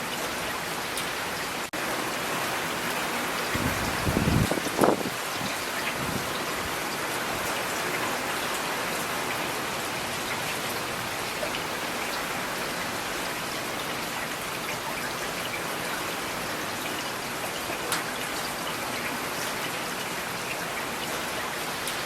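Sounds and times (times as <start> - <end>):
rain on hard surfaces: 0.0 - 22.0.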